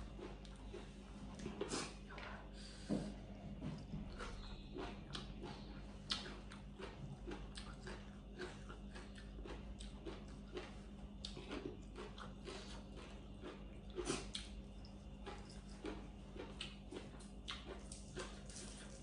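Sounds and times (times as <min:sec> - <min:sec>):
person chewing and smacking: 0:00.0 - 0:02.2, 0:03.8 - 0:19.0.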